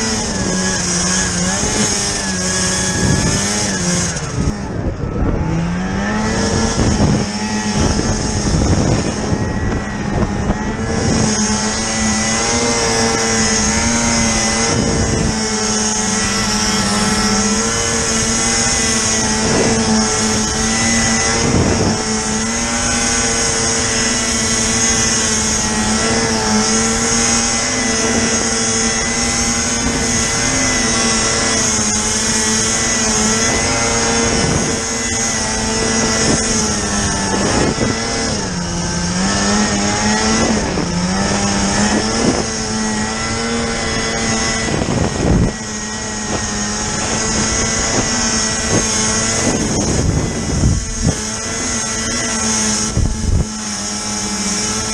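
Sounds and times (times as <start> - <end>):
snowmobile engine at high revs: 0.0 - 54.9.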